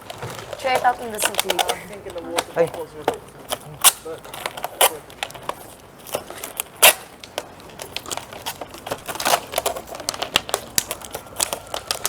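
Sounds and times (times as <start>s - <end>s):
plastic and tape crinkling: 0.0s - 12.0s.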